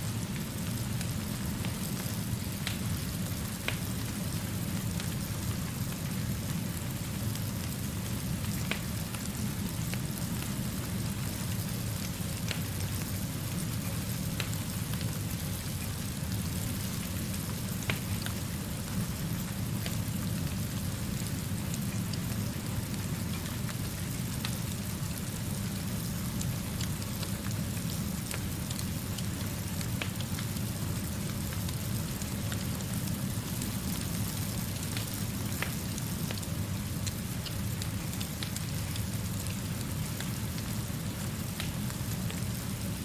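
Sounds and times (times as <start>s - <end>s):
steady rainfall: 0.0s - 43.0s.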